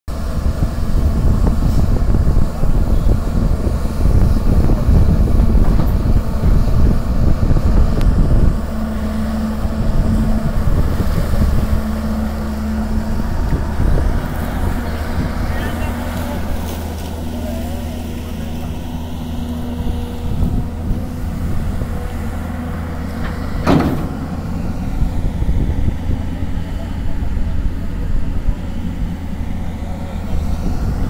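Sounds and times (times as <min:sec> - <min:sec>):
excavator diesel engine rumbling: 0:00.1 - 0:31.0.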